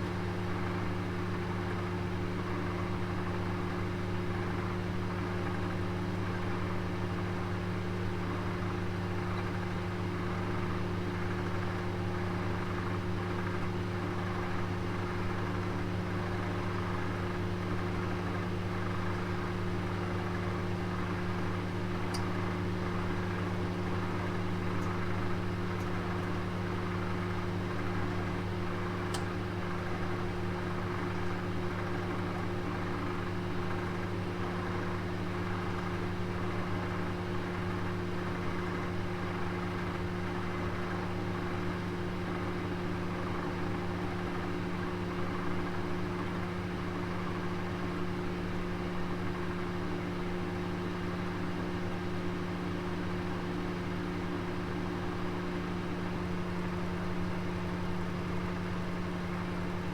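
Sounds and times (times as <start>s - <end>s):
oven fan humming: 0.0s - 59.9s.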